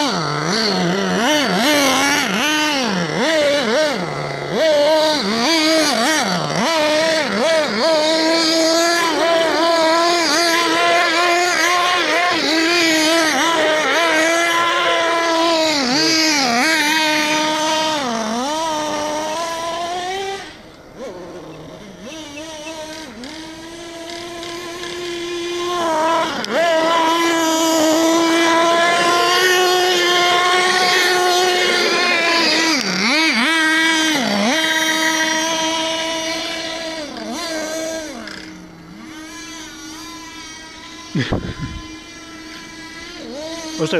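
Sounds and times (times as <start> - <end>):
small high-revving engine: 0.0 - 43.9.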